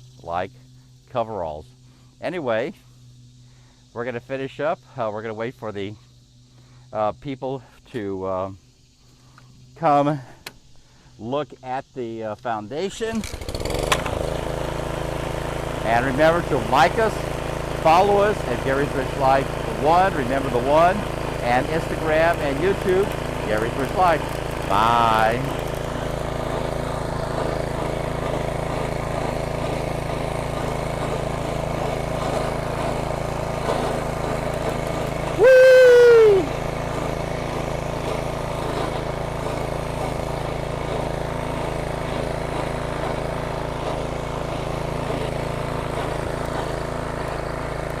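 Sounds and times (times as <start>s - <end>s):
small engine running: 0.0s - 48.0s.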